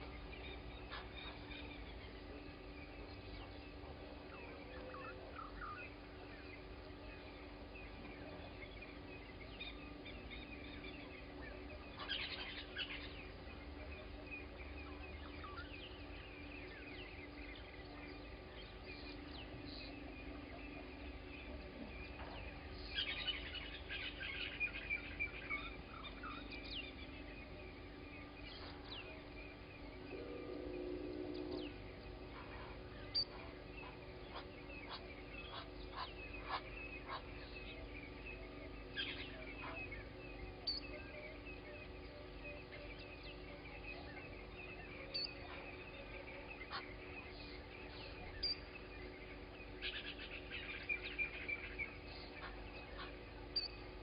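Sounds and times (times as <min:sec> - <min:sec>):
birds chirping and calling: 0:00.0 - 0:54.0
low bird call: 0:00.0 - 0:54.0.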